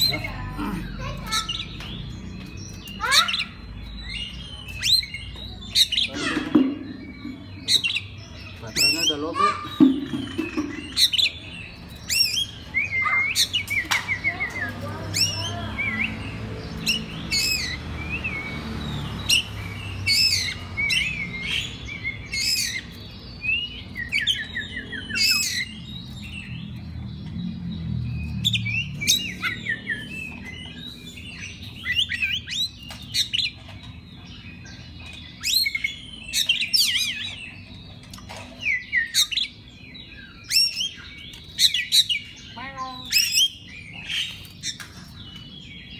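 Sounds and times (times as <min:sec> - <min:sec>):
bird singing chirps and whistles: 0:01.4 - 0:27.4, 0:28.1 - 0:38.0, 0:38.6 - 0:45.9.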